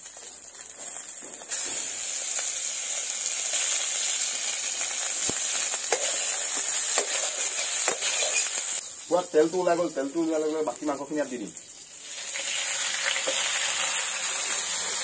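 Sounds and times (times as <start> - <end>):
pork fat sizzling in a wok: 0.0 - 15.0.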